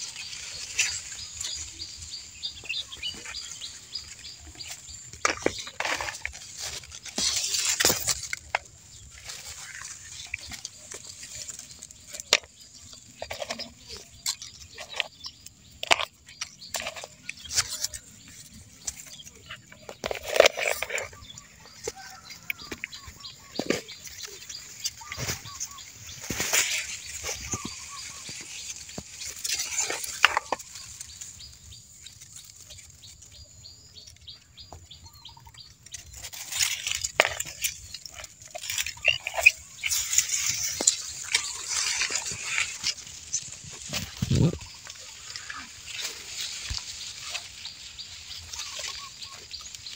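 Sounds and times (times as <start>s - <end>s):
twigs and leaves rustling: 0.0s - 49.9s.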